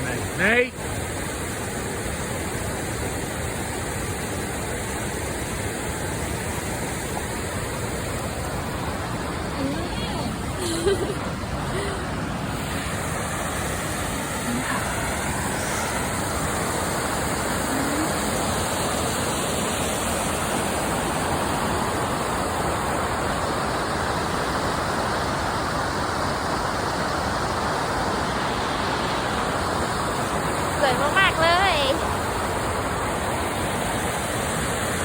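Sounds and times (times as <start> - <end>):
waterfall roaring: 0.0 - 35.0.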